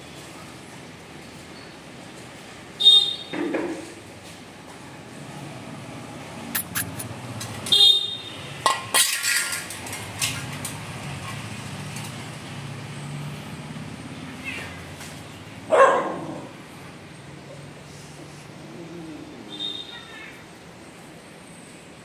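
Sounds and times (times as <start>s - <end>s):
street hum: 0.0s - 22.0s.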